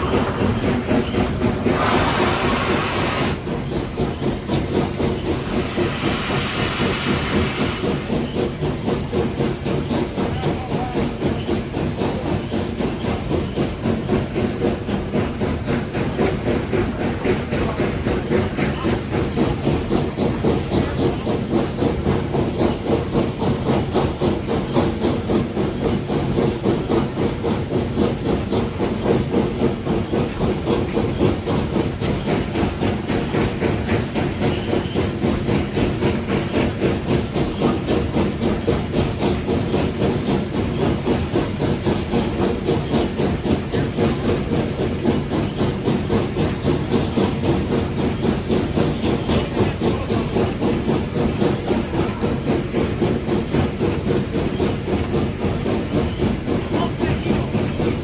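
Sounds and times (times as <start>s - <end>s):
rail noise: 0.0s - 58.0s
steam hiss: 0.0s - 58.0s
steam locomotive exhaust beat: 0.0s - 58.0s.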